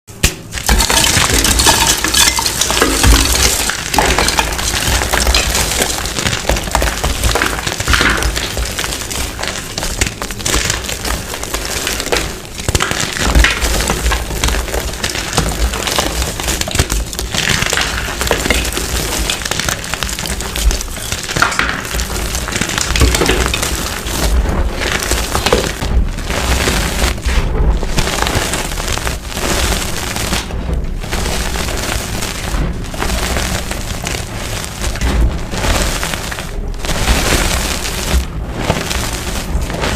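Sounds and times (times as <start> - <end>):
chalk crushing and crunching: 0.4 - 39.9.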